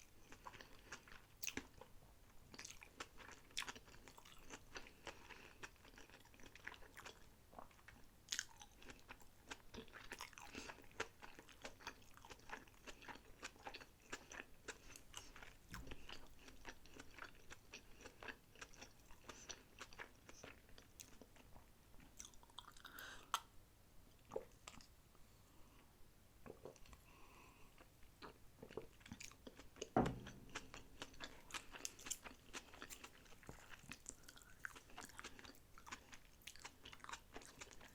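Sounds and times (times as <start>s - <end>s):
close-miked chewing: 0.0s - 23.5s, 24.2s - 25.0s, 26.4s - 37.9s.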